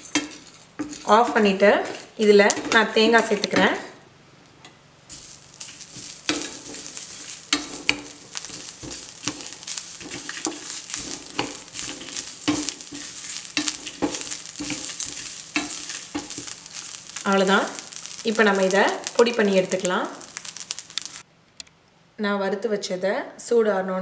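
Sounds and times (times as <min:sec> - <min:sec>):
wooden spatula scraping pan: 0:00.0 - 0:03.5, 0:05.1 - 0:21.2
light sizzle: 0:00.0 - 0:21.3.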